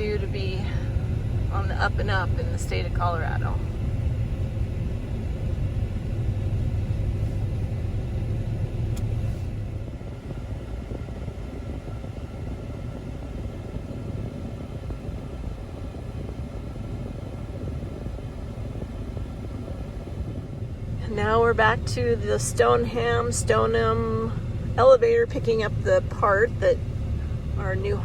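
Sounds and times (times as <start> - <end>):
vehicle driving rumble: 0.0 - 28.0.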